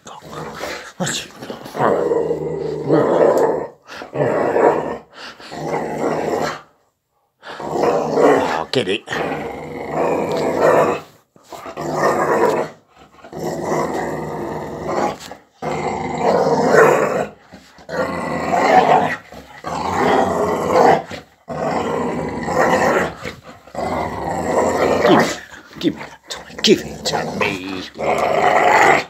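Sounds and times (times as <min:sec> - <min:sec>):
dog growling in play: 0:00.0 - 0:06.8, 0:07.4 - 0:29.0.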